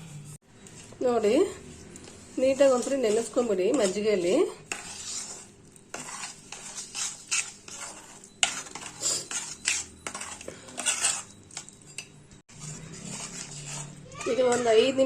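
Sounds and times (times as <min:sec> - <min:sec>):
spoon scraping and clinking: 0:01.8 - 0:15.0.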